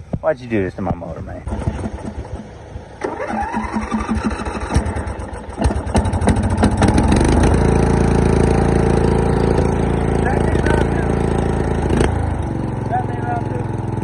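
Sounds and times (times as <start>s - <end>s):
mower engine cranking and running: 1.4s - 14.0s.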